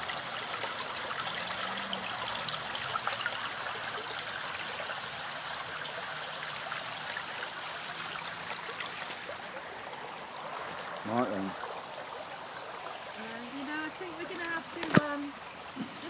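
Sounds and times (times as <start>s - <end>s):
stream running over stones: 0.0s - 16.0s
water splashes and trickles: 0.0s - 16.0s.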